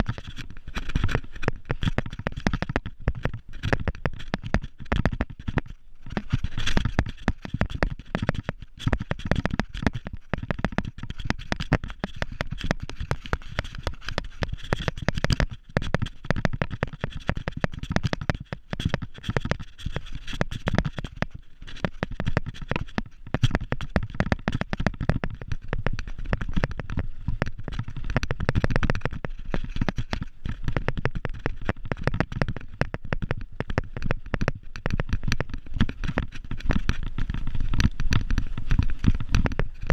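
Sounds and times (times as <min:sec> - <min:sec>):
bike rattling over rocky trail: 0:00.0 - 0:39.9.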